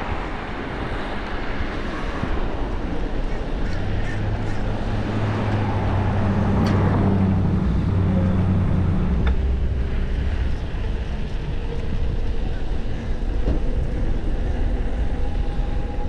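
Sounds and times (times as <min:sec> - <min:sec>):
road and wind noise: 0:00.0 - 0:16.0
vehicle engine hum: 0:00.0 - 0:16.0.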